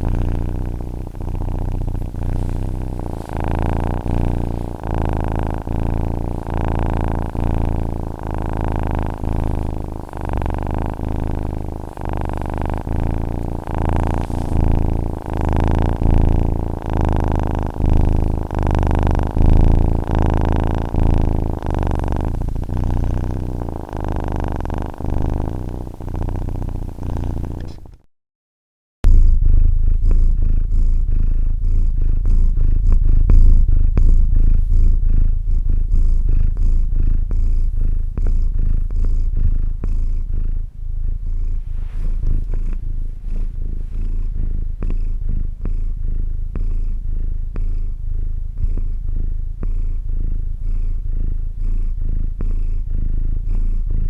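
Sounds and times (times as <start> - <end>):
cat purring: 0.0 - 28.1, 29.0 - 54.0
deeper cat purr: 0.0 - 28.1, 29.0 - 54.0.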